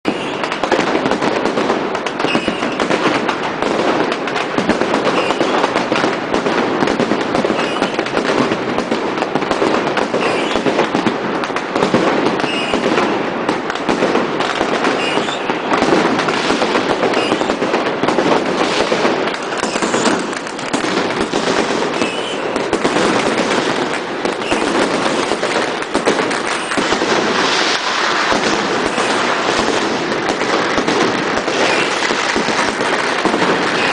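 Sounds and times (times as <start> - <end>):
fireworks and firecrackers bangs: 0.0 - 33.9.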